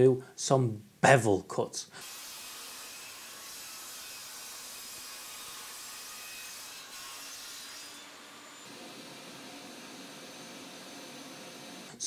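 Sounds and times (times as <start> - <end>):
table saw cutting: 2.0 - 12.0.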